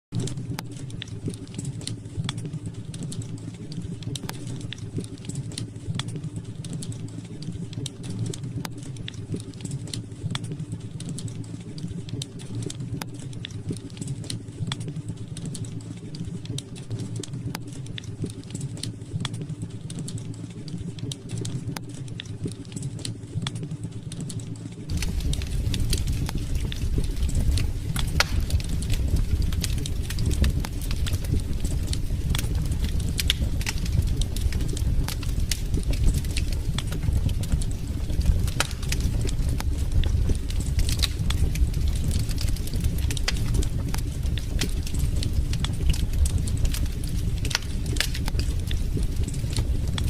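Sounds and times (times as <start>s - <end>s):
wood fire crackling: 0.2s - 50.0s.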